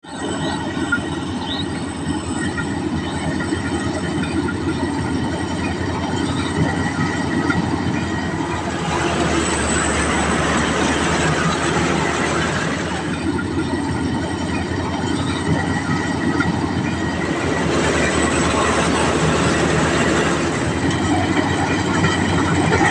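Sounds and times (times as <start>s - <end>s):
combine harvester engine: 0.0s - 22.9s
clattering machinery: 0.1s - 22.9s.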